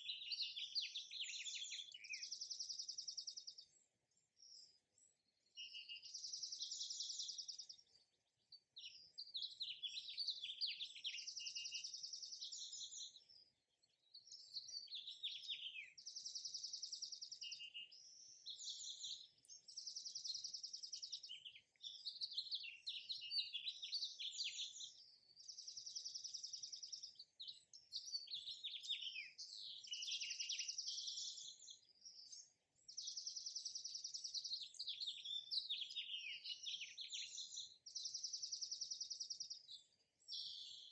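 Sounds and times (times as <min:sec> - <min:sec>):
songbird trilling and chirping: 0:00.0 - 0:40.9.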